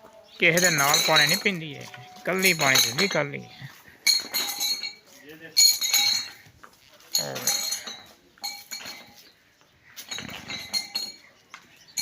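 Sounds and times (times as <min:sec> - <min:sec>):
livestock bells jingling: 0:00.3 - 0:12.0.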